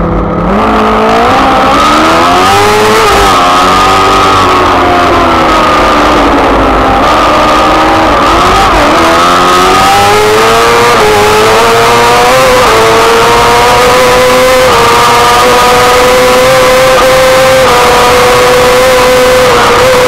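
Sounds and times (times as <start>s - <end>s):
racing engine revving: 0.0s - 20.0s.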